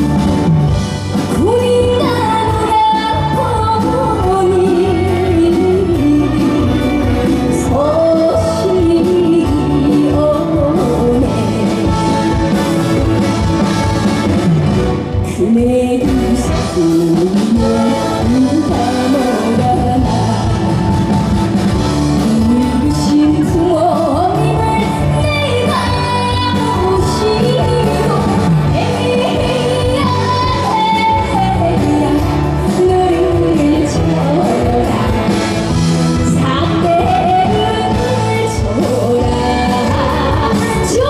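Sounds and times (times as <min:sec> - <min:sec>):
woman singing: 0:00.0 - 0:13.9, 0:15.0 - 0:21.2, 0:22.1 - 0:41.0
live band playing: 0:00.0 - 0:41.0.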